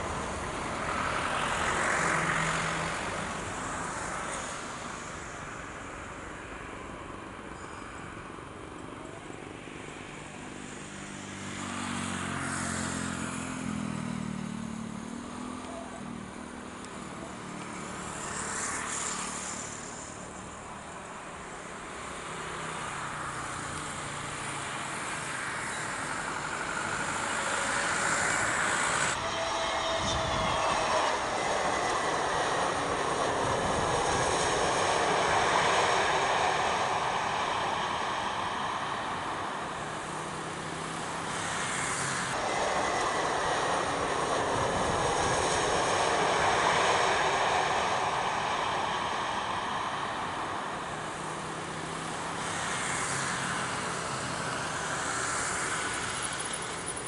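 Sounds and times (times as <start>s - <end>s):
jet engines roaring at takeoff: 0.0s - 57.0s.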